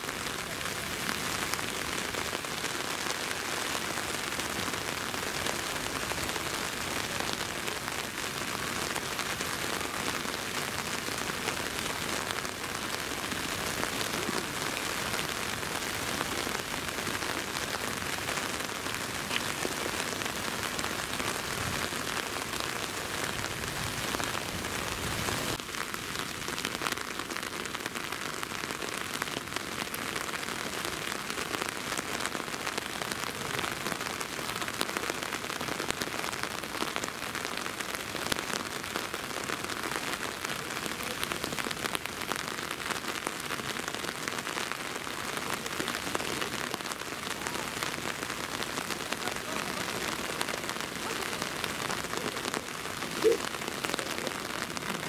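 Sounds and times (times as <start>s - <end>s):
rain falling on foliage: 0.0s - 55.0s.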